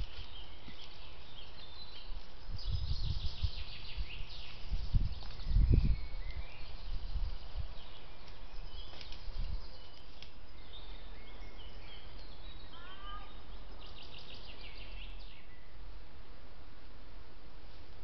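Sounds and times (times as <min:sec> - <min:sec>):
microphone hiss: 0:00.0 - 0:18.0
songbirds chirping: 0:00.0 - 0:18.0.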